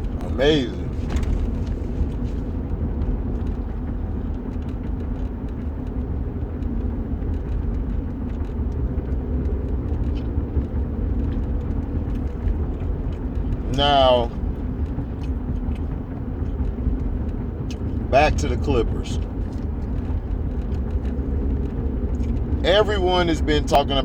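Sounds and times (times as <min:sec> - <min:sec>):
car driving rumble: 0:00.0 - 0:24.0.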